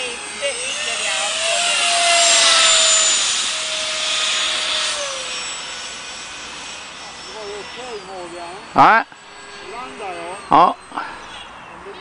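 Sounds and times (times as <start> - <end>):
model jet electric motor whining: 0.0 - 12.0.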